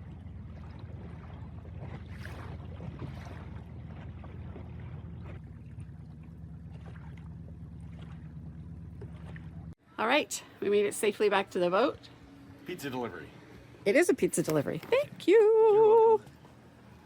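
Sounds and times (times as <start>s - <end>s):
faint water noise: 0.0s - 17.0s
outboard motor humming: 0.0s - 17.0s.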